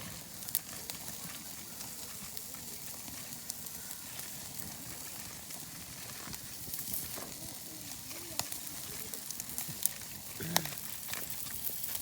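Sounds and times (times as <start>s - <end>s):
burning wood crackling: 0.0s - 12.0s
shellfish sizzling on grill: 0.0s - 12.0s.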